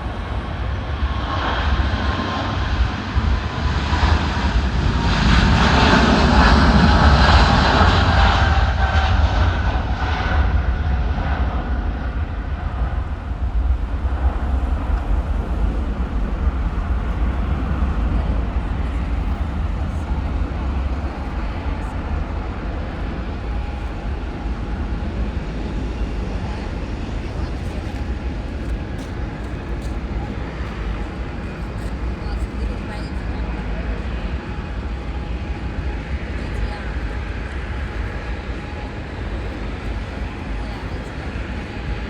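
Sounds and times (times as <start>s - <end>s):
jet engine deep rumble: 0.0s - 42.0s
jet engine whine: 0.0s - 42.0s.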